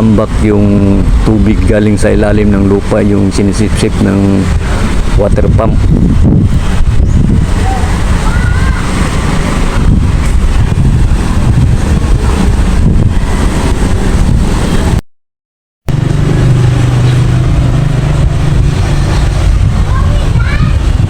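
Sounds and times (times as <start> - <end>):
engine hum: 0.0 - 15.0, 15.9 - 21.0
loud low rumble: 0.0 - 15.0, 15.9 - 21.0.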